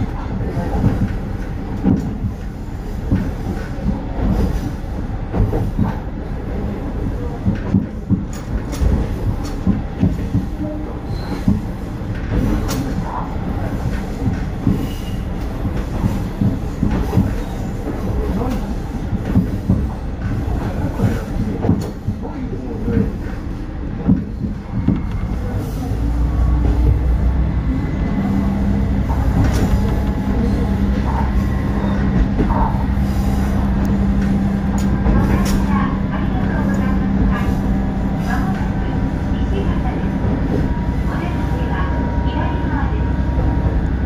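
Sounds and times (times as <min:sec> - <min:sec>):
train engine and running gear rumble: 0:00.0 - 0:44.0.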